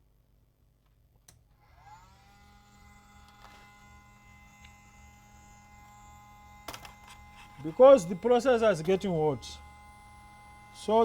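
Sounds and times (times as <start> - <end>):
blower motor whine: 1.8 - 11.0.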